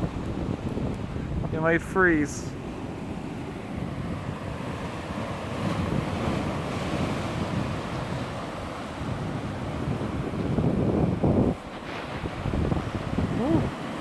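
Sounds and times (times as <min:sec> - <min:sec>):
ocean waves washing ashore: 0:00.0 - 0:14.0
wind buffeting microphone: 0:00.0 - 0:14.0.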